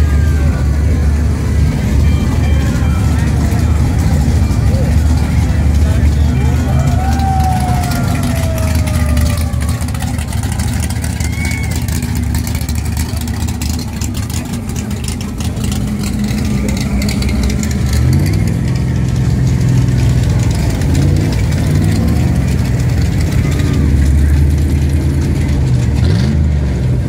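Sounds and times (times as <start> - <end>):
car engines running low: 0.0 - 27.0
car engine speeding up: 3.2 - 27.0.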